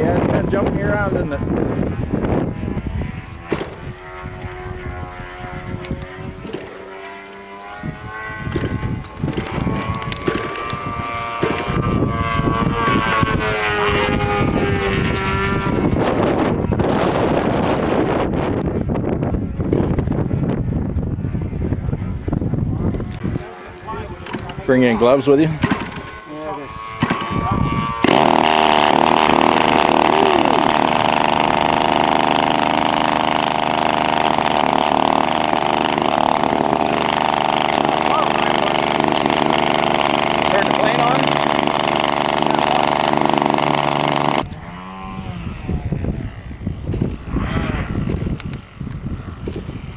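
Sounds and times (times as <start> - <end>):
model airplane engine running: 0.0 - 49.9
wind buffeting microphone: 0.0 - 49.9.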